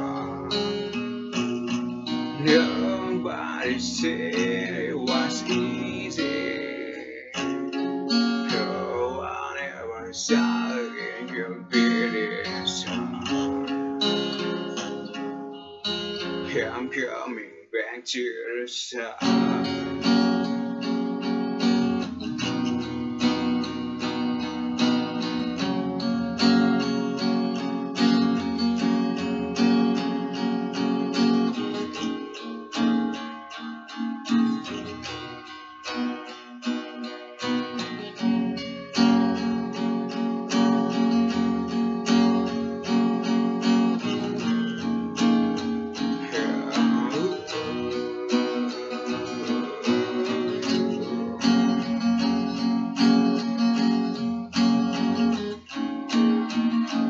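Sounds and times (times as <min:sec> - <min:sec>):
acoustic guitar strumming: 0:00.0 - 0:18.0, 0:18.9 - 0:57.0.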